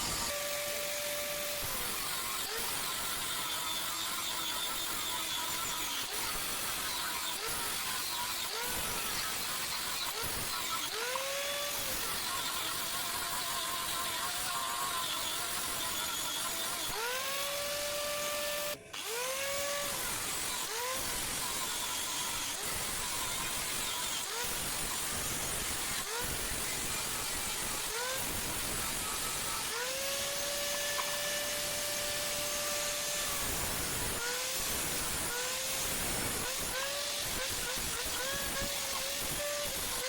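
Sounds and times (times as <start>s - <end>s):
power tool motor whining: 0.0s - 40.0s.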